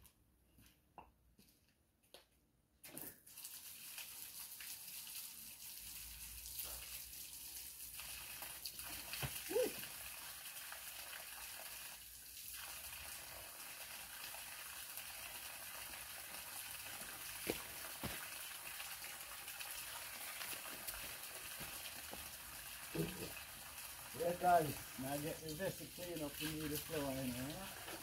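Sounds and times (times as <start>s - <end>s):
water running from a tap: 3.1s - 28.0s.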